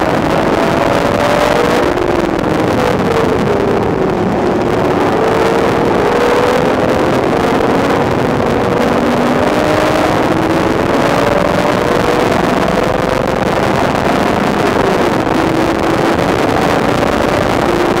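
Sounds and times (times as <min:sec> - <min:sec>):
car engine at speed: 0:00.0 - 0:18.0
road and wind noise: 0:00.0 - 0:18.0.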